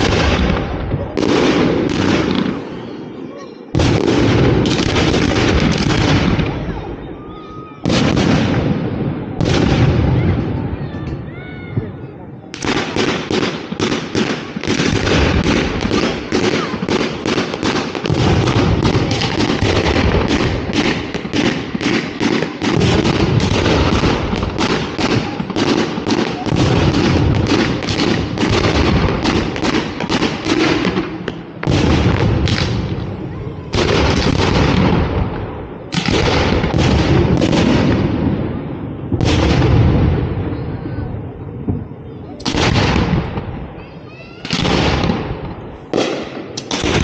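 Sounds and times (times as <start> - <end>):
fireworks bursting: 0.0 - 47.0
heavy echoing booms: 0.0 - 47.0.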